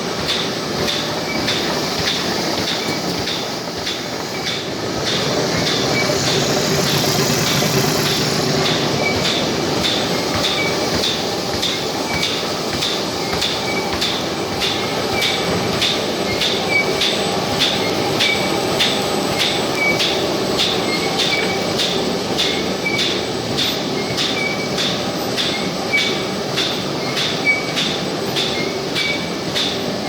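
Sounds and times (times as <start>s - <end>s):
paper sheeting machine clacking: 0.0s - 30.0s.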